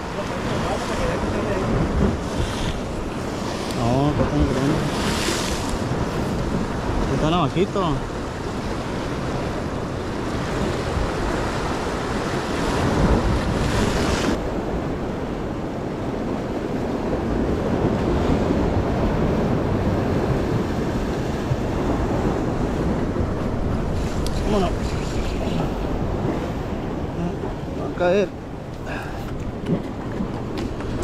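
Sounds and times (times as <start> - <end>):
waves washing against rocks: 0.0 - 31.0
wind rumbling on microphone: 0.0 - 31.0.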